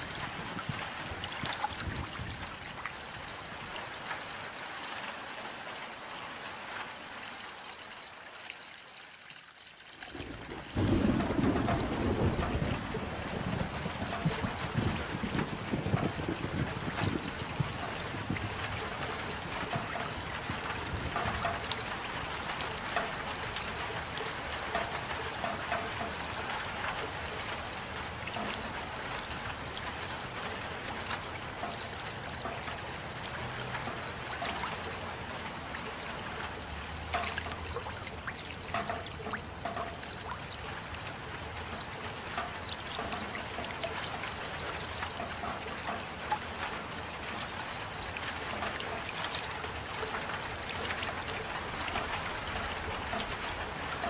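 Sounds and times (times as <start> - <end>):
steady rain: 0.0 - 54.0
water trickling: 0.0 - 54.0
drops ticking and plinking: 9.8 - 54.0.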